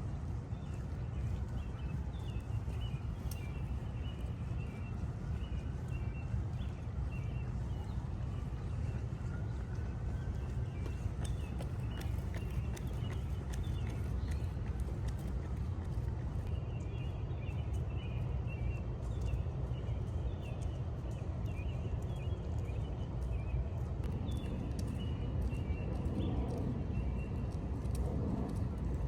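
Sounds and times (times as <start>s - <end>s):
low city rumble: 0.0s - 29.0s.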